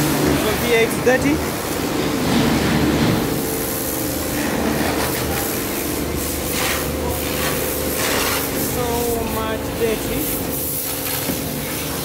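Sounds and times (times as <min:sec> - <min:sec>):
pressure washer motor hum: 0:00.0 - 0:12.0.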